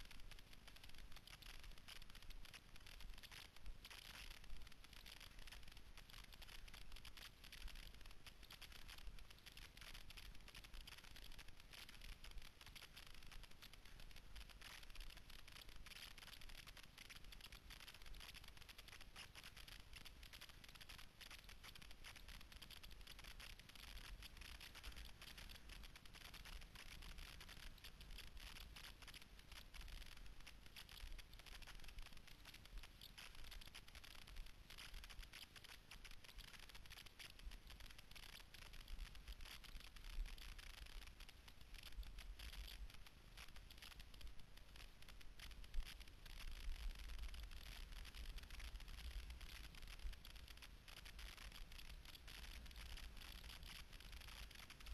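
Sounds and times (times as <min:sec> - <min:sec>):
small ticks: 0:00.0 - 0:54.9.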